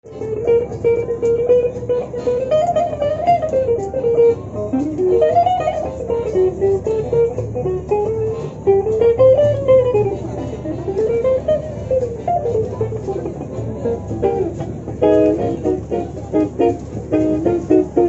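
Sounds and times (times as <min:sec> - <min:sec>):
jazz guitar melody: 0:00.0 - 0:18.0
low accompaniment: 0:00.0 - 0:18.0.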